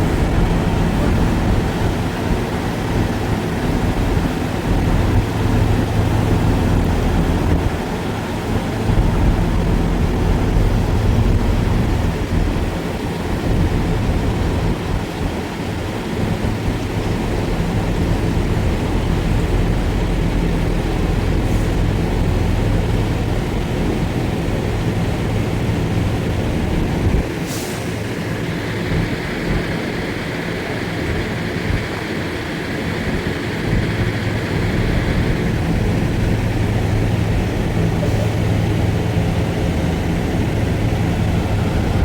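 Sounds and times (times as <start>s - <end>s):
truck engine drone: 0.0s - 42.0s.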